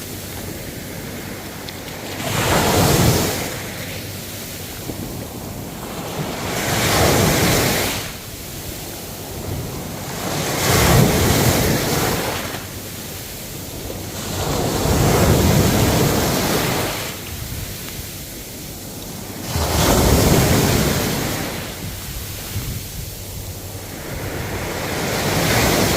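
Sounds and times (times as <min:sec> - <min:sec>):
ocean waves breaking: 0:00.0 - 0:25.9.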